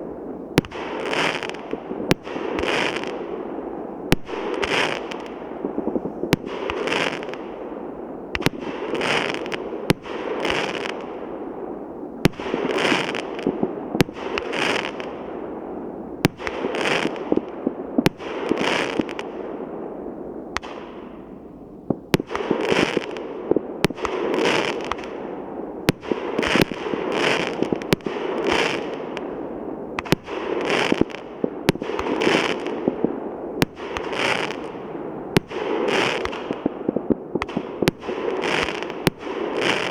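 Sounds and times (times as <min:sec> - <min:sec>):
fireworks crackling: 0:00.0 - 0:19.6, 0:20.6 - 0:39.9
fireworks bangs: 0:00.0 - 0:39.9.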